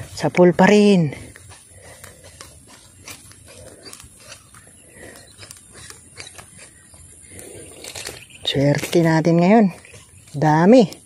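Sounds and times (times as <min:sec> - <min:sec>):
microphone handling clicks and rustling: 0:01.2 - 0:11.0.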